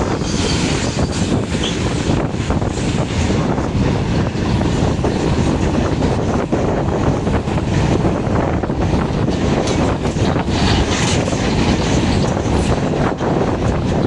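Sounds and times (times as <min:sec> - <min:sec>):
train wheels rumbling on rails: 0:00.0 - 0:14.0
wind buffeting microphone: 0:00.0 - 0:14.0.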